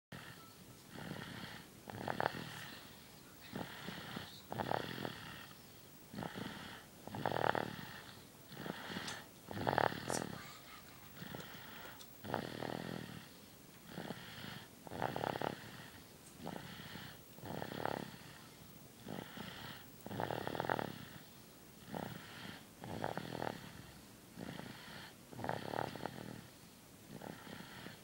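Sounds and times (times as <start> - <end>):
person snoring: 0.1 - 10.4, 11.1 - 26.5, 27.1 - 28.0.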